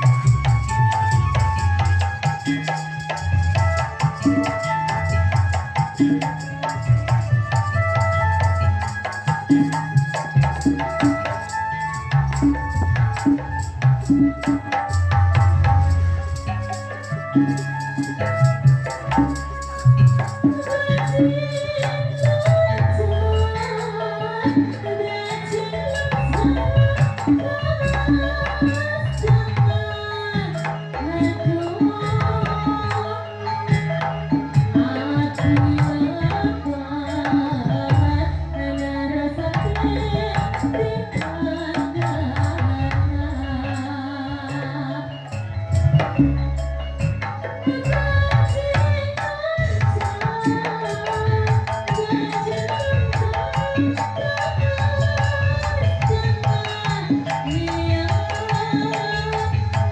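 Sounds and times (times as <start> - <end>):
hand drums beating: 0.0 - 33.1, 33.7 - 38.4, 39.4 - 43.5, 45.6 - 59.9
bass line: 0.0 - 59.9
held melody: 0.0 - 59.9.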